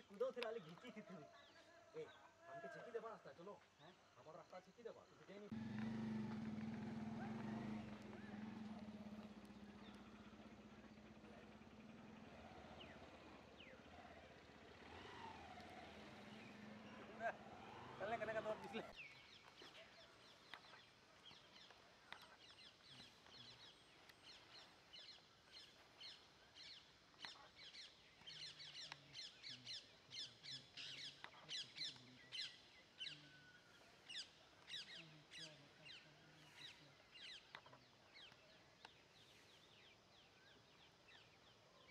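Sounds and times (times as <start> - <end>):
faint bird chirping: 0.0 - 41.9.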